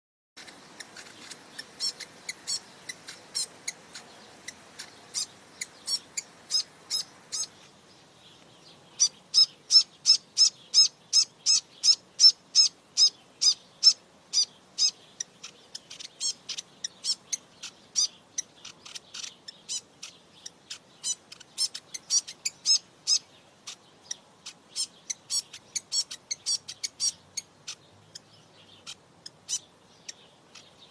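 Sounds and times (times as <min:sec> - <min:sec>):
bird giving sharp high calls: 0:00.4 - 0:07.7, 0:08.9 - 0:30.9.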